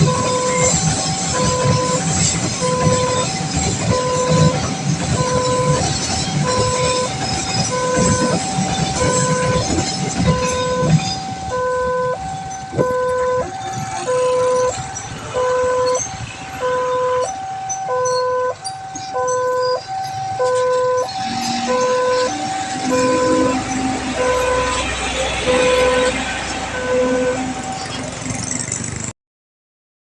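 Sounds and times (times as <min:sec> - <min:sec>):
vehicle horn: 0:00.0 - 0:03.3, 0:03.9 - 0:04.6, 0:05.2 - 0:19.7, 0:20.4 - 0:27.8
level crossing two-tone alarm: 0:00.0 - 0:27.9
road traffic: 0:00.0 - 0:29.1.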